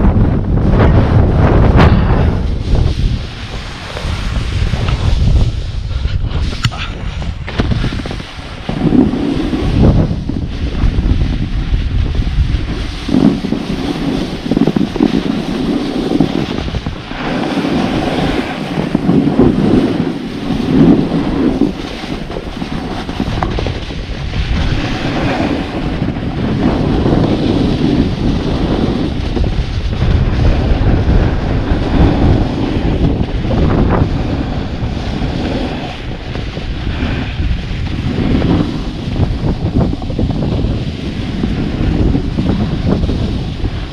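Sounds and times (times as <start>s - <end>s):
snowboard scraping on snow: 0.0s - 43.9s
wind buffeting microphone: 0.0s - 43.9s.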